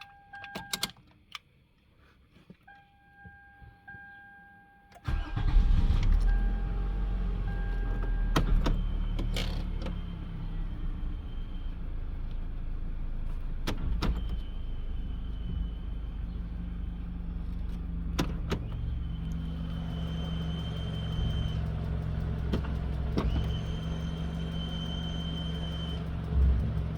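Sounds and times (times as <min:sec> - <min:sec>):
car engine idling: 0:05.1 - 0:26.9.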